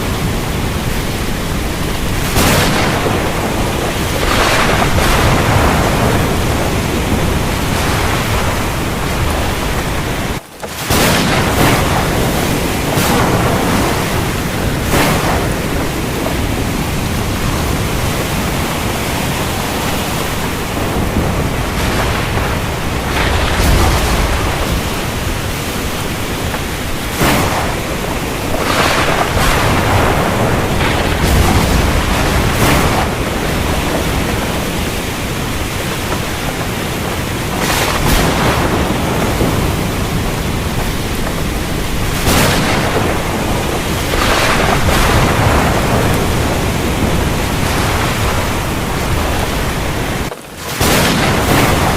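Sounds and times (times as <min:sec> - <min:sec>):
distant thunder rumbling: 0:00.0 - 0:51.9
gusts of wind: 0:00.0 - 0:51.9
heavy rain: 0:00.0 - 0:51.9.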